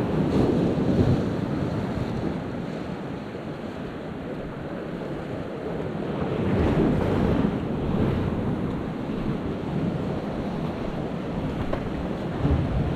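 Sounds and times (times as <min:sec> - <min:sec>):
ocean surf washing against rocks: 0:00.0 - 0:12.9
wind buffeting the microphone: 0:00.0 - 0:12.9.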